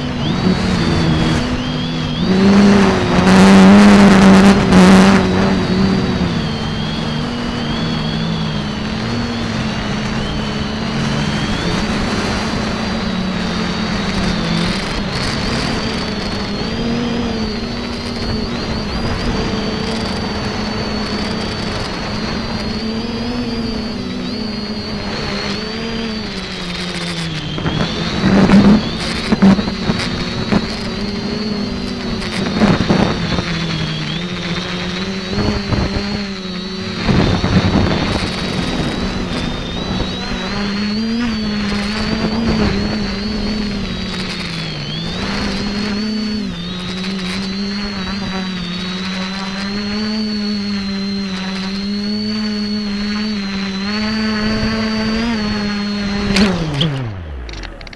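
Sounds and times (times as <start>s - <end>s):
drone motors humming and whining: 0.0s - 57.9s.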